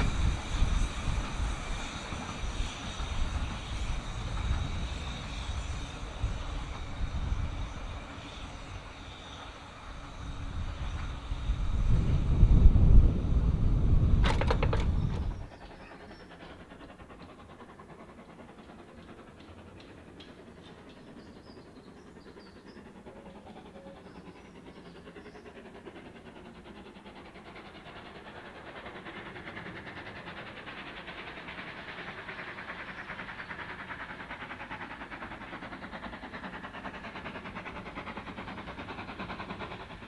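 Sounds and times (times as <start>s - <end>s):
train running past: 0.0s - 40.0s.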